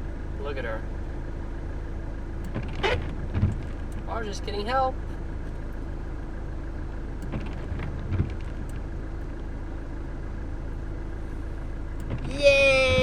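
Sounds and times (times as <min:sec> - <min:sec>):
van road and engine noise: 0:00.0 - 0:13.0.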